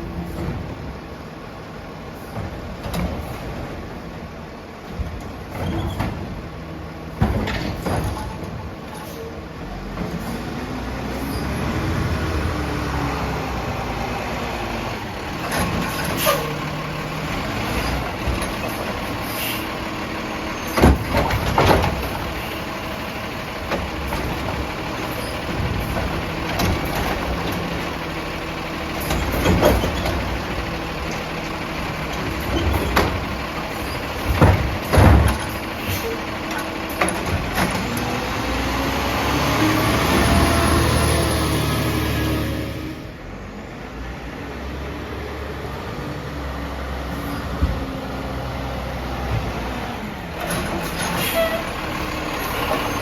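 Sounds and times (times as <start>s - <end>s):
garbage truck diesel engine: 0.0s - 53.0s.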